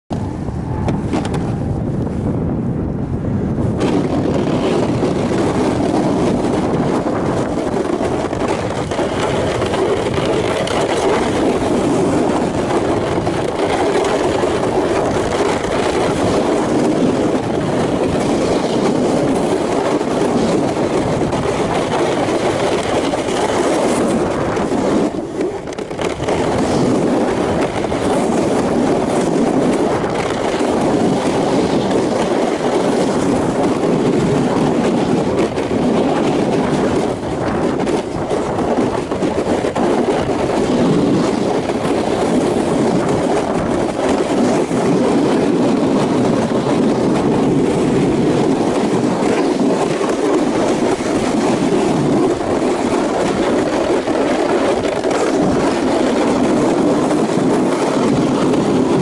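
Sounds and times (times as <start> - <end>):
sled scraping over snow: 0.2 - 2.6, 3.4 - 59.0.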